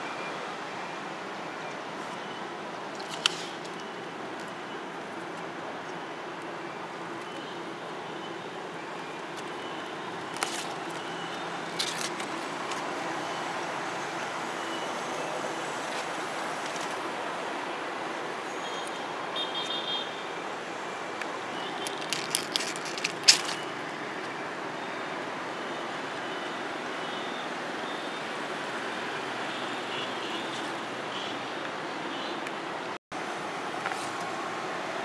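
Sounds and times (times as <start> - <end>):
distant road traffic hum: 0.0 - 35.0.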